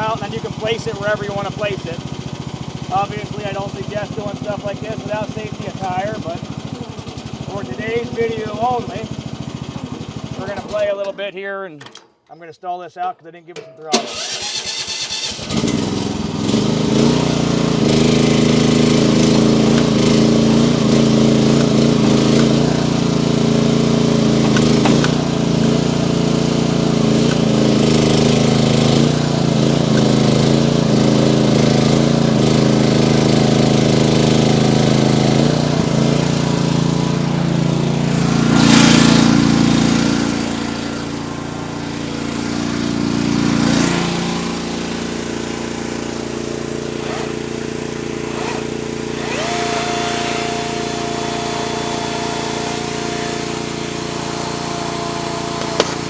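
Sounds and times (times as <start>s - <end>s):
small excavator engine running: 0.0s - 10.9s, 14.0s - 56.0s.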